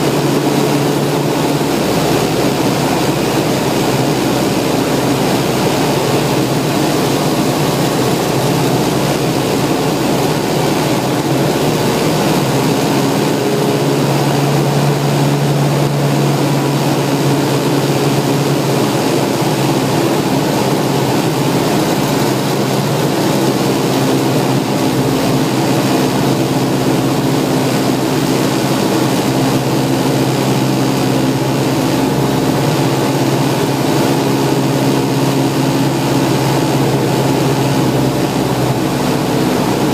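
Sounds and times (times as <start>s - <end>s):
propeller aircraft engine: 0.0s - 39.9s.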